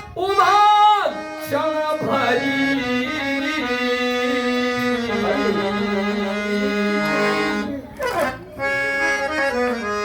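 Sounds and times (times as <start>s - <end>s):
harmonium melody: 0.0s - 10.0s.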